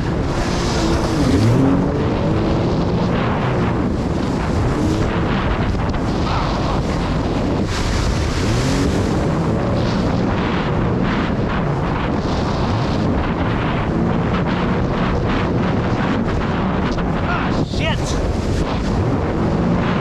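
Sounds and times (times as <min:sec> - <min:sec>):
jet ski engine running: 0:00.0 - 0:20.0
rushing water: 0:00.0 - 0:20.0
wind noise on microphone: 0:00.0 - 0:20.0.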